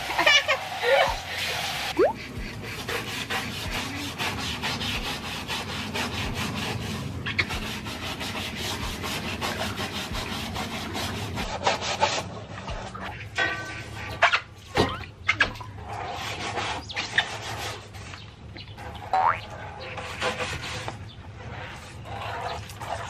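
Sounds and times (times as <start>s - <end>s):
brush scrubbing wet tiles: 0.0s - 14.8s, 15.4s - 18.2s, 18.8s - 23.0s.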